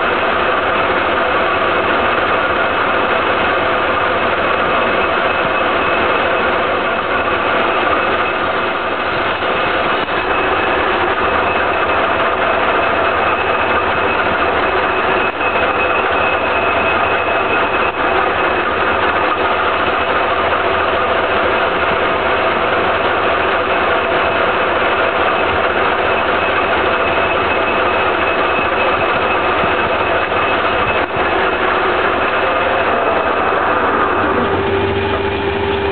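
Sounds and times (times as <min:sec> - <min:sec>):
lathe cutting steel bar: 0:00.0 - 0:35.9.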